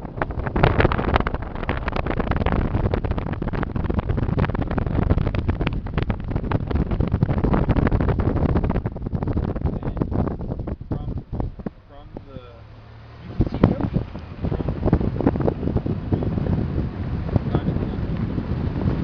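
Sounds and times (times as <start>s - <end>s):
car road noise: 0.0s - 19.0s
wind buffeting microphone: 0.0s - 19.0s.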